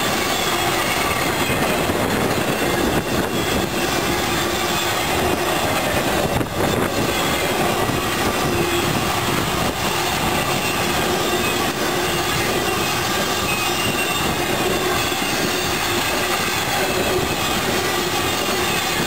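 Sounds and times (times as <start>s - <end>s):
train wheels rolling on track: 0.0s - 19.0s.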